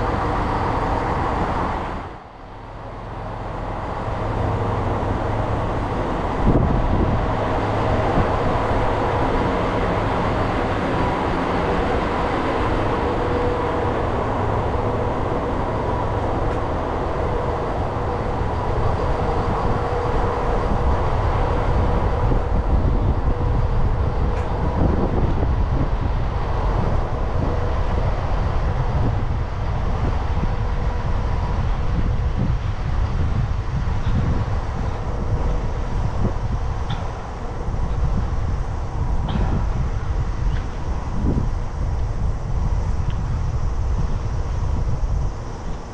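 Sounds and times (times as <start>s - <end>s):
diesel railcar rumbling: 0.0s - 45.9s.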